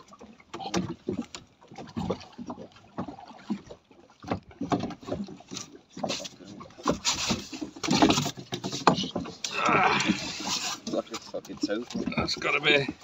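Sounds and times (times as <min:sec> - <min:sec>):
knocks and thuds on boat deck: 0:00.0 - 0:13.0
waterproof clothing rustling: 0:00.0 - 0:13.0.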